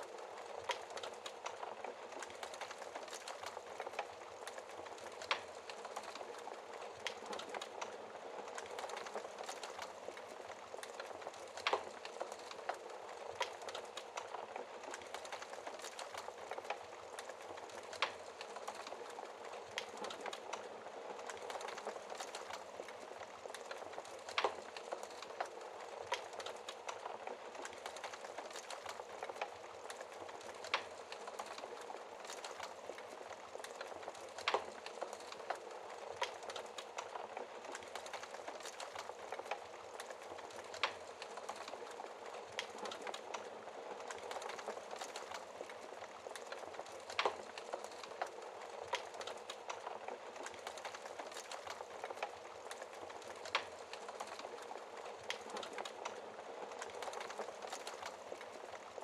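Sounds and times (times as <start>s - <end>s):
logs crackling and popping: 0.0s - 59.0s.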